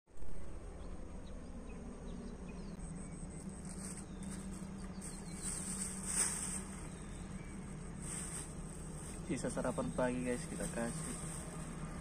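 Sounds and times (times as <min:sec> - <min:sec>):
low steady hum: 0:00.1 - 0:12.0.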